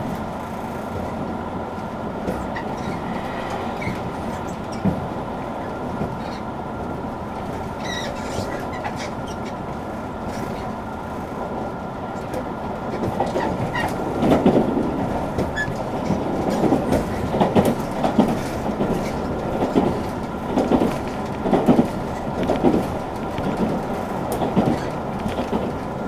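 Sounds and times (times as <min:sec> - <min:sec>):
train motor hum: 0:00.0 - 0:26.0
wheels clacking over rail joints: 0:00.0 - 0:26.0.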